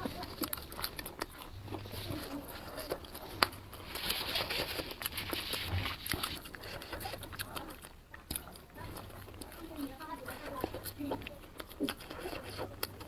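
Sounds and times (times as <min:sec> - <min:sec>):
slurping: 0:00.0 - 0:13.0.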